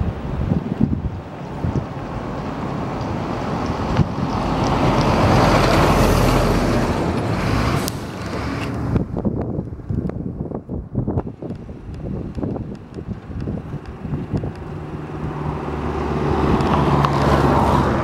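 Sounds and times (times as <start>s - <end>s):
wind rumbling on microphone: 0.0s - 18.0s
vehicle passing: 1.1s - 9.2s, 11.3s - 18.0s.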